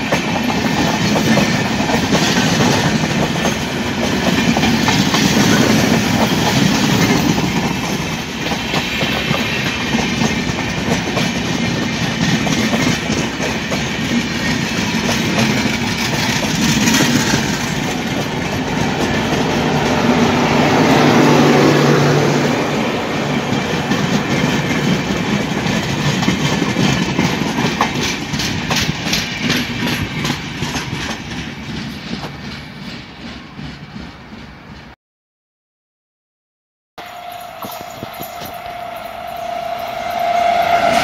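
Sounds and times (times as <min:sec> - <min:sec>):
wheels clicking over rail joints: 0:00.0 - 0:21.1, 0:23.2 - 0:34.5, 0:37.0 - 0:41.0
passenger train passing: 0:00.0 - 0:35.0, 0:37.0 - 0:41.0.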